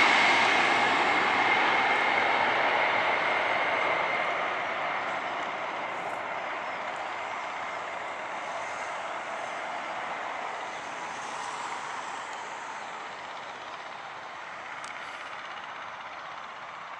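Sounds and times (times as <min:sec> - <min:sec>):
jet engine rush: 0:00.0 - 0:16.9.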